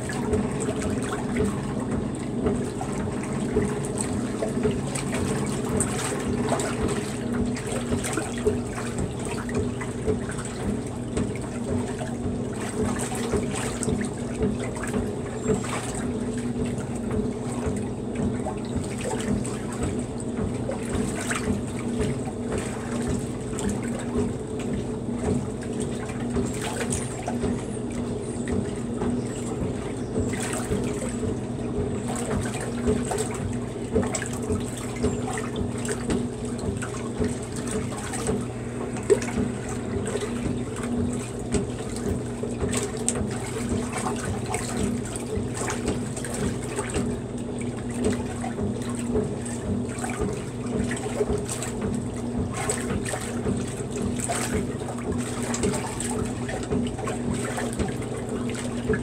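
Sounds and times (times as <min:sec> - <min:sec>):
washing machine hum: 0:00.0 - 0:59.0
washing machine sloshing water: 0:00.0 - 0:59.0.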